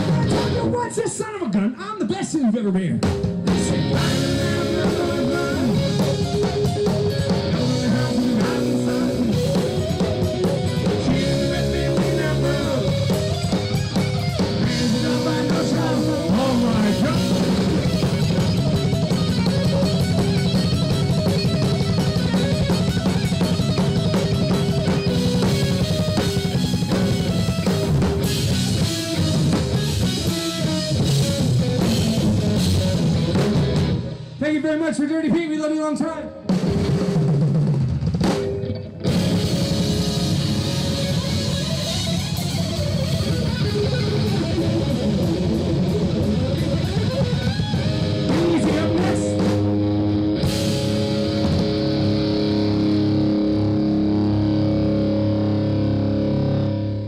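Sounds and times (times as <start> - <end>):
electric guitar: 0.0 - 1.6, 3.0 - 34.4, 36.2 - 57.0
drum kit beat: 0.0 - 34.4, 36.4 - 52.5
bass guitar: 0.0 - 34.8, 36.0 - 57.0.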